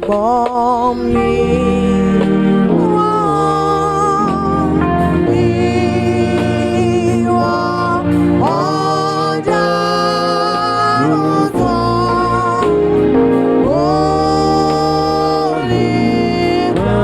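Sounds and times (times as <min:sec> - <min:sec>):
choir singing held notes: 0:00.0 - 0:17.0
keyboard accompaniment: 0:00.0 - 0:17.0.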